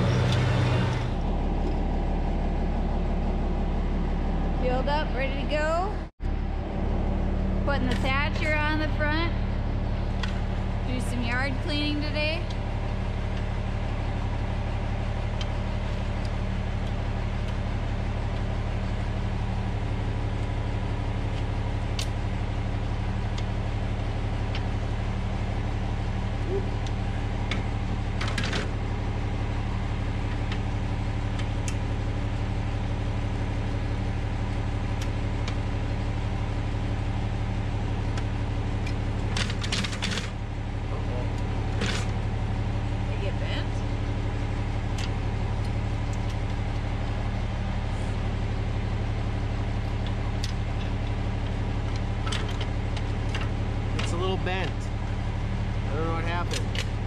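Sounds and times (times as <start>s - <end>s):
small tractor engine idling: 0.0s - 57.0s.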